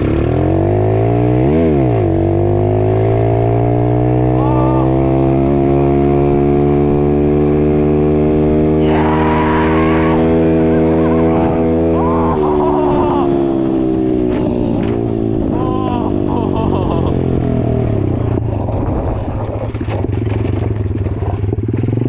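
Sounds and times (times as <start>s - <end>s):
motorbike accelerating: 0.0s - 22.0s.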